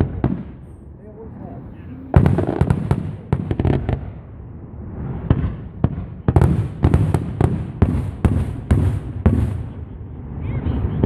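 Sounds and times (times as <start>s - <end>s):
deep fireworks booms: 0.0s - 11.0s
fireworks bangs and crackles: 0.0s - 11.0s.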